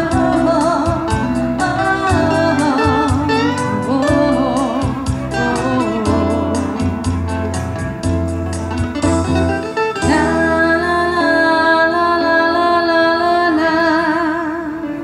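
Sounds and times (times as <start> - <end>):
backing track with bass: 0.0 - 15.0
electric guitar: 0.0 - 15.0.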